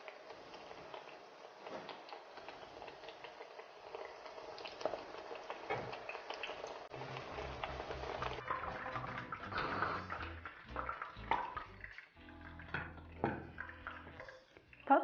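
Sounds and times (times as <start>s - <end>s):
deep-frying sizzle with pops: 0.0s - 15.0s.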